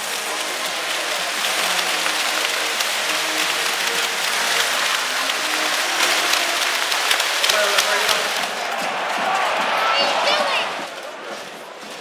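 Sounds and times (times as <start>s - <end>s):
crowd cheering voices: 0.0s - 12.0s
crowd clapping: 0.0s - 12.0s.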